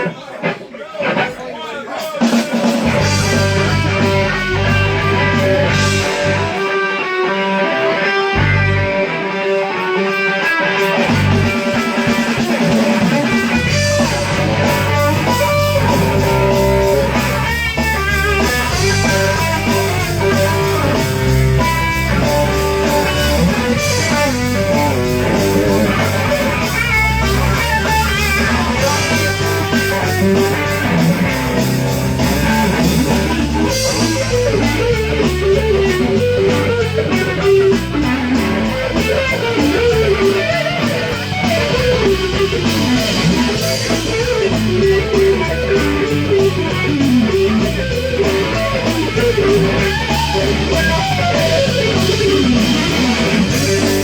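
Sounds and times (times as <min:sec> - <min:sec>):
drums and cymbals: 0:00.0 - 0:54.0
electric guitar: 0:02.2 - 0:54.0
bass line: 0:02.8 - 0:06.6, 0:08.3 - 0:09.0, 0:11.0 - 0:54.0.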